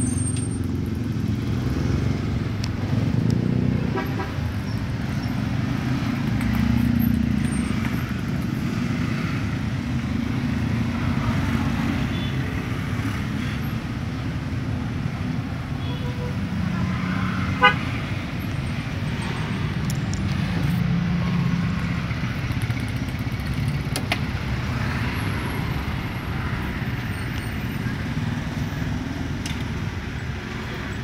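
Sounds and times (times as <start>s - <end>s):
road traffic noise: 0.0s - 31.0s
vehicle engines running: 0.0s - 31.0s.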